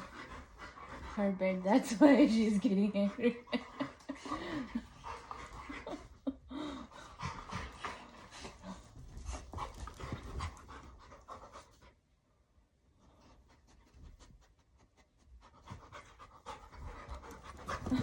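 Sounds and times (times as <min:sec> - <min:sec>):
puppies panting and scuffling: 0:00.0 - 0:12.0, 0:13.0 - 0:18.0.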